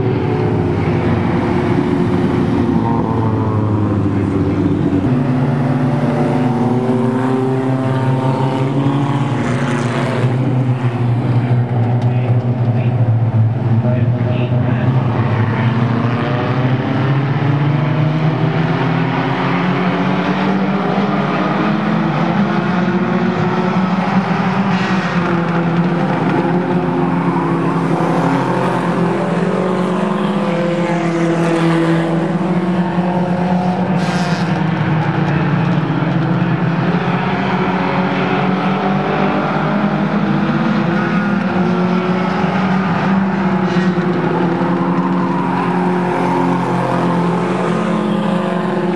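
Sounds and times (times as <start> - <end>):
race car engines: 0.0 - 48.9.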